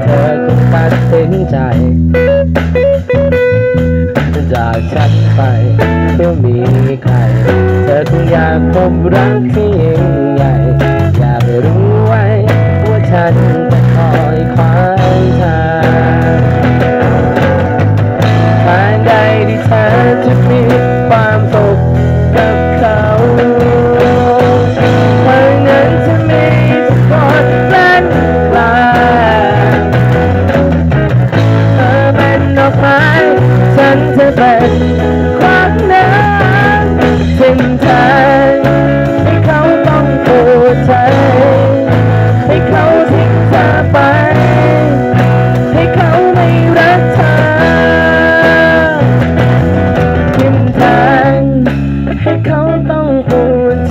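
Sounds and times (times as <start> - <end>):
drums struck with sticks: 0.0 - 52.2
bass guitar: 0.0 - 53.9
guitar lead with bent notes: 0.0 - 53.9.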